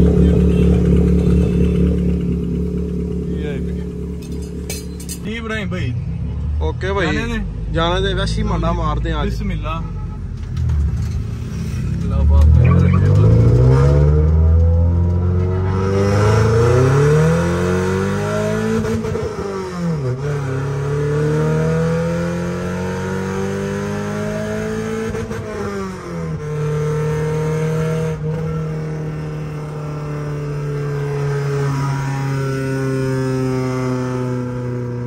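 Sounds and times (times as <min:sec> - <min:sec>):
car engine accelerating: 0:00.0 - 0:09.2, 0:10.4 - 0:35.0.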